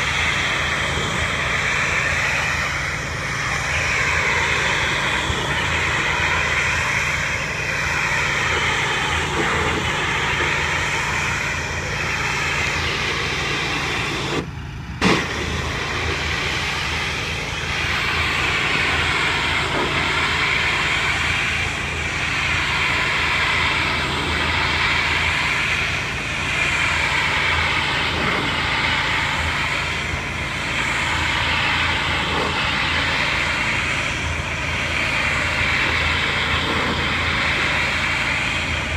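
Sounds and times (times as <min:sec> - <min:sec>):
high-pressure spray hissing: 0:00.0 - 0:38.9
pressure washer motor humming: 0:00.0 - 0:38.9.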